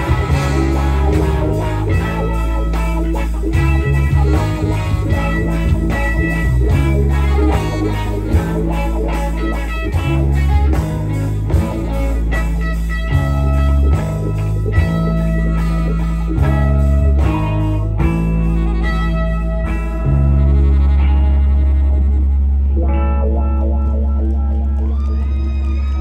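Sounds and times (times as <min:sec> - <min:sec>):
drums keeping a steady beat: 0:00.0 - 0:21.0
bass line: 0:00.0 - 0:26.0
electric guitar lines: 0:00.0 - 0:26.0.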